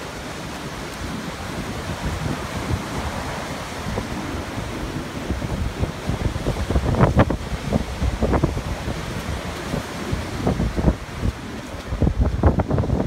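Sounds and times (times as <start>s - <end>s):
ocean surf washing up beach: 0.0s - 13.0s
wind buffeting microphone: 0.0s - 13.0s.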